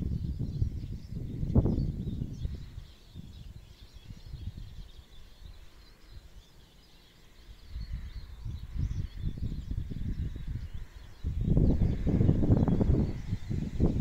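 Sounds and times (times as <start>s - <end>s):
small birds chirping faintly: 0.0s - 14.0s
wind rumbling on microphone: 0.0s - 14.0s.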